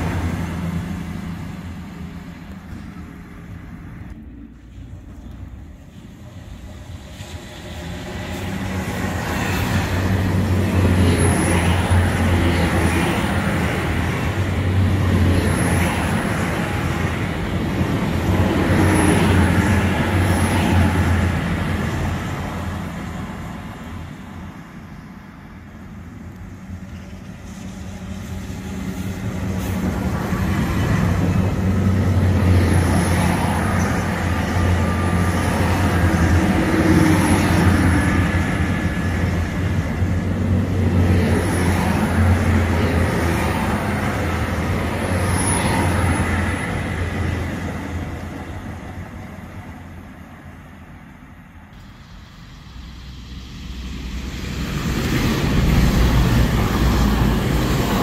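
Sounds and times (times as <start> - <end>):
train diesel engines humming: 0.0 - 58.0.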